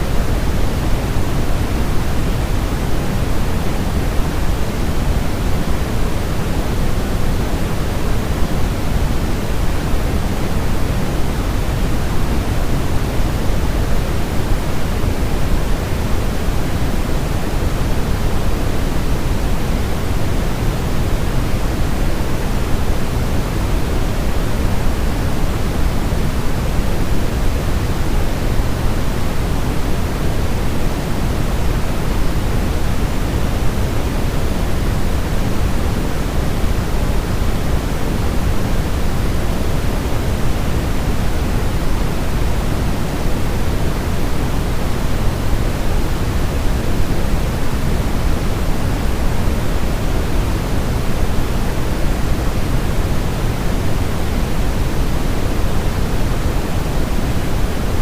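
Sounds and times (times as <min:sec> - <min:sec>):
deep white noise: 0:00.0 - 0:58.0.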